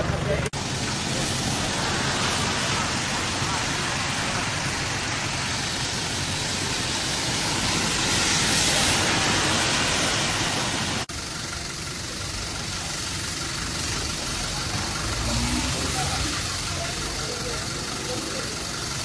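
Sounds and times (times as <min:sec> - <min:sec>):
rain hissing: 0:00.5 - 0:19.0.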